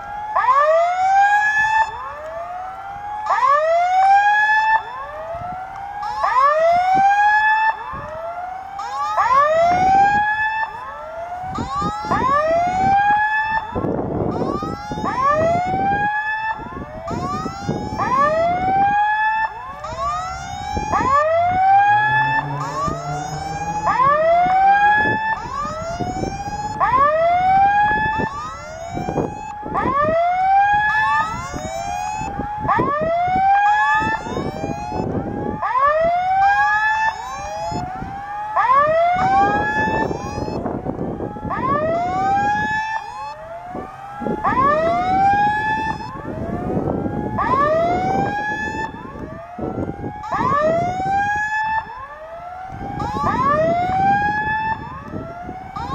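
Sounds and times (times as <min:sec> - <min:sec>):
level crossing warning tone: 0:01.7 - 0:35.2, 0:36.5 - 0:55.9.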